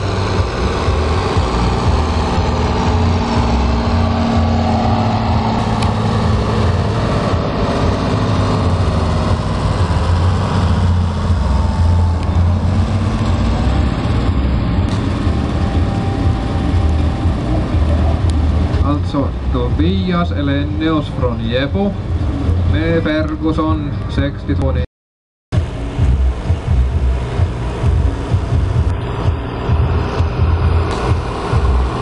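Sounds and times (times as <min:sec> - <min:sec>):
tractor diesel engine under load: 0:00.0 - 0:24.8, 0:25.5 - 0:32.0.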